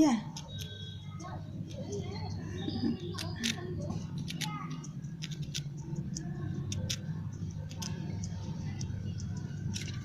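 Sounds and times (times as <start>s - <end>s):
squirrel gnawing biscuit: 0.3s - 10.0s.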